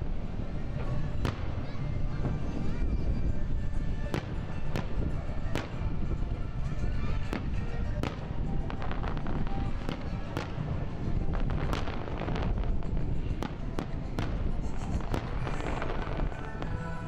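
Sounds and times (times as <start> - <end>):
music playing: 0.0 - 17.0
steady rumble: 0.0 - 17.0.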